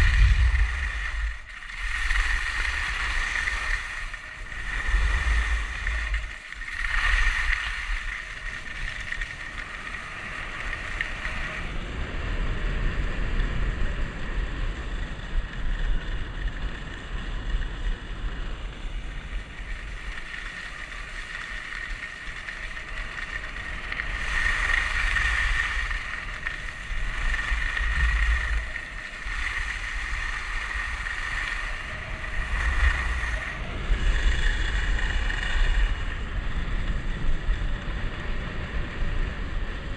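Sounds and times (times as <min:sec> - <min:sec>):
skis scraping over snow: 0:00.0 - 0:12.0, 0:14.6 - 0:39.9
wind buffeting microphone: 0:00.0 - 0:39.9.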